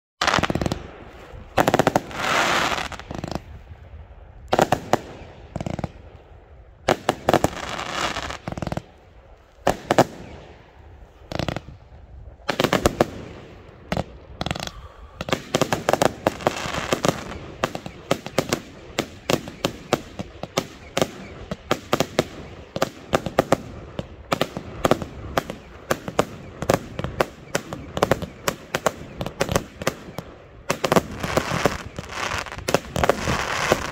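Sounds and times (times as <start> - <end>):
fireworks hissing trail: 0.2 - 3.7, 6.9 - 33.9
fireworks bursting: 0.2 - 33.9.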